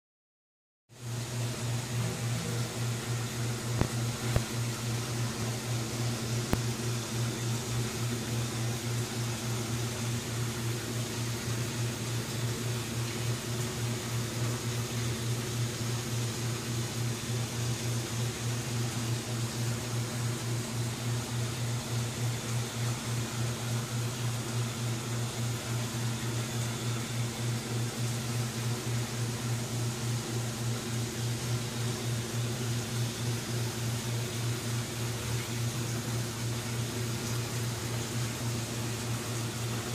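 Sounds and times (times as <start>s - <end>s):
aquarium equipment humming: 0.9s - 39.9s.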